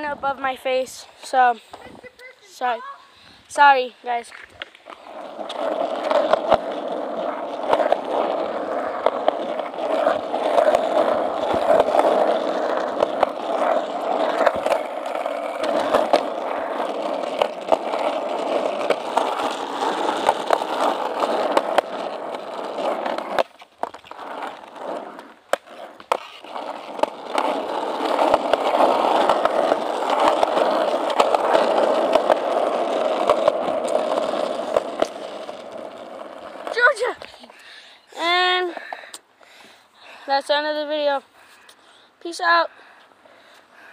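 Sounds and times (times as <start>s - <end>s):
skateboard rolling on concrete: 0.0s - 43.9s.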